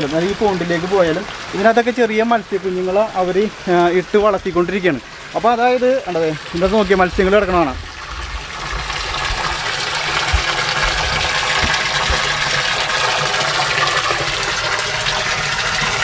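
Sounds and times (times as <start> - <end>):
water pouring into a tank: 0.0 - 16.0.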